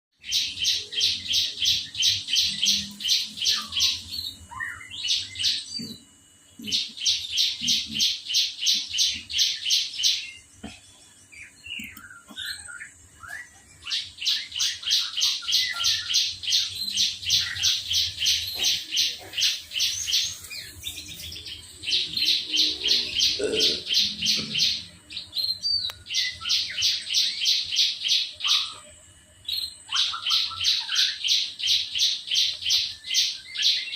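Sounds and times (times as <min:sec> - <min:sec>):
lovebird chirping: 0:00.2 - 0:33.9.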